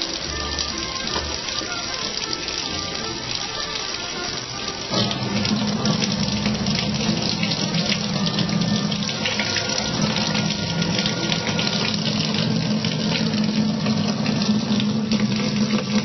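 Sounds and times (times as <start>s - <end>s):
faucet water splashing into sink: 0.0s - 16.0s.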